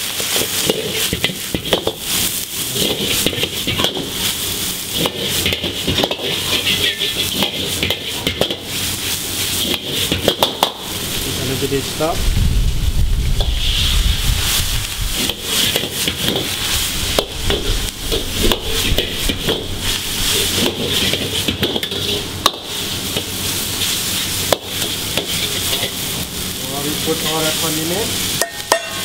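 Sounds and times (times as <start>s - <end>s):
noodles sizzling in a wok: 0.0s - 29.0s
metal ladle scraping a wok: 0.1s - 11.0s, 13.4s - 26.3s, 27.2s - 29.0s.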